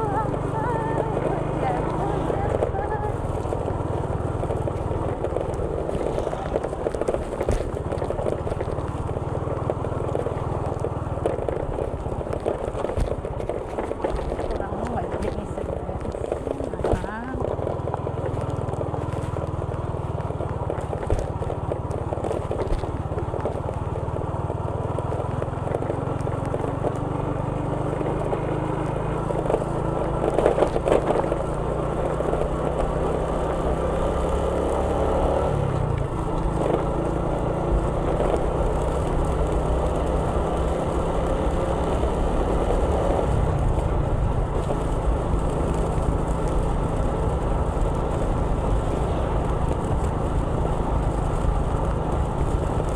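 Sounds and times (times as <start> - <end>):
road noise: 0.0 - 52.9
vehicle engine drone: 0.0 - 52.9.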